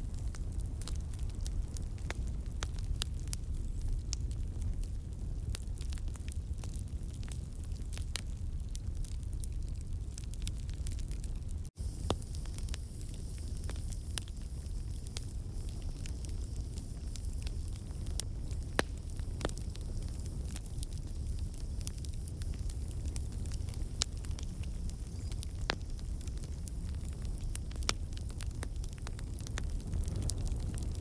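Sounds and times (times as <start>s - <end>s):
burning logs crackling and popping: 0.0s - 31.0s
low rumble of flames: 0.0s - 31.0s.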